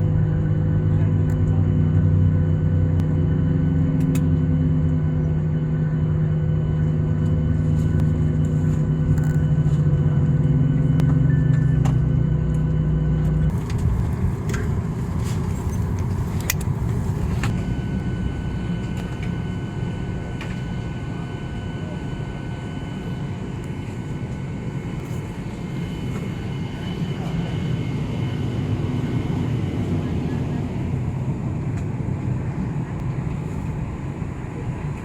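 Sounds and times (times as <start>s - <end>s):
aircraft engine hum: 0.0s - 35.0s.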